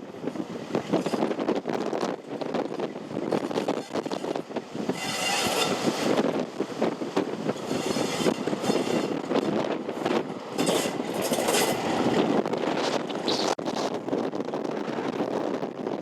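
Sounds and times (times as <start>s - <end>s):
diesel locomotive running: 0.0s - 16.0s.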